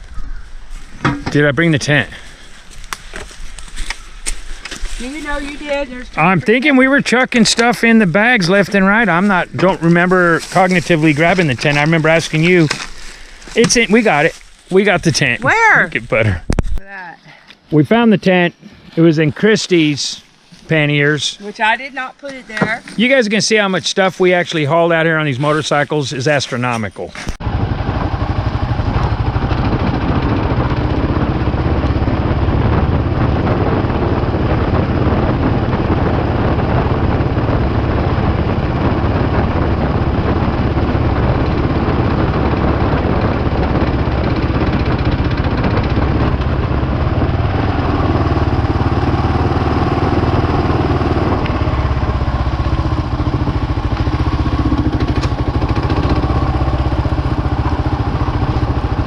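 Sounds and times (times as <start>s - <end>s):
motorcycle engine running: 0.0s - 16.5s, 27.4s - 59.0s.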